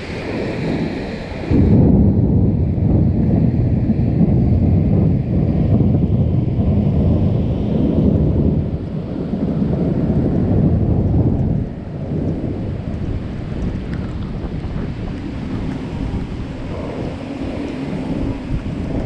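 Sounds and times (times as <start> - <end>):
rolling thunder rumbling: 0.0 - 19.0.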